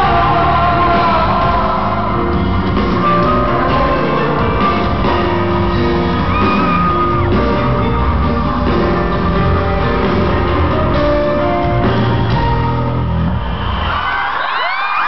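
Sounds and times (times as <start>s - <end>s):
live pop-rock concert music: 0.0s - 15.0s.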